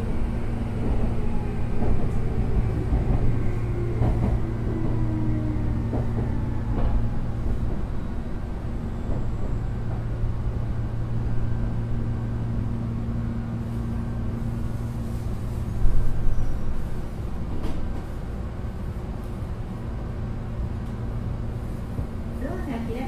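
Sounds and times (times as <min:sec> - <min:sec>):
electric train rumble: 0:00.0 - 0:23.0.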